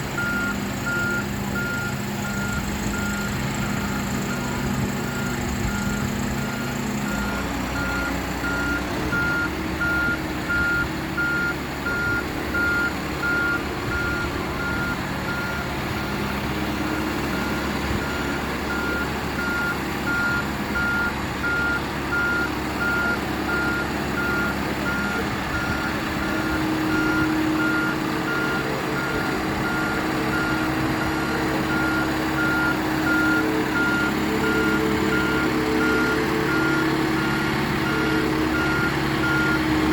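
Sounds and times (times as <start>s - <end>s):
vehicle engine running: 0.0s - 39.9s
reversing alarm beeping: 0.2s - 39.7s.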